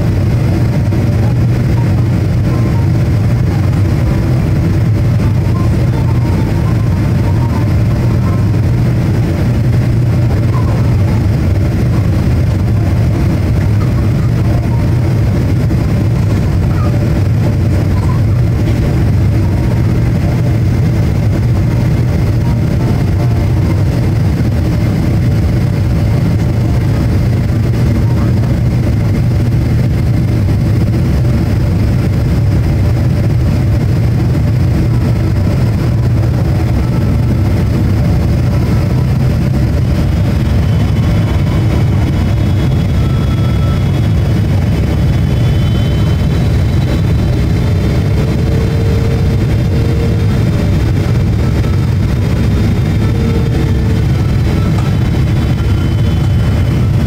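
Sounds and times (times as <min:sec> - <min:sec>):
airplane cabin roar: 0:00.0 - 0:57.0
faint high whine: 0:00.0 - 0:57.0.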